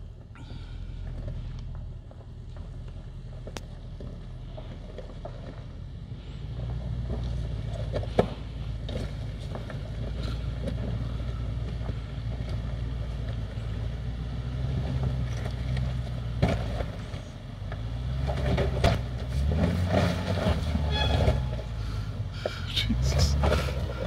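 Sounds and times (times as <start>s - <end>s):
low engine note: 0.0s - 24.0s
rocks cracking under tyres: 0.2s - 20.8s.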